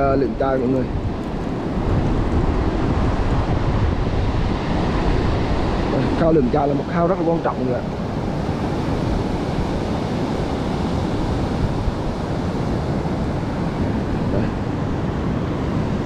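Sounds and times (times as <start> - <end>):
surf washing onto beach: 0.0 - 16.0
wind on microphone: 0.0 - 16.0.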